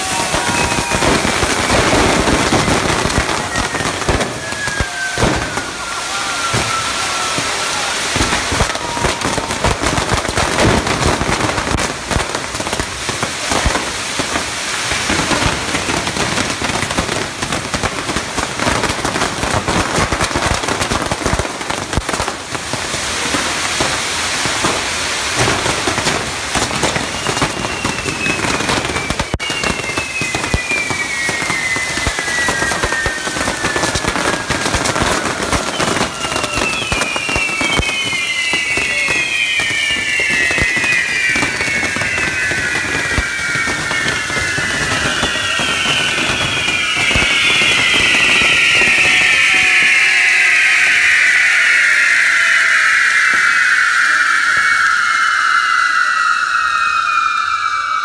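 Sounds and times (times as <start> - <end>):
falling firework whistles: 0.0 - 58.0
firecrackers crackling: 0.0 - 58.0.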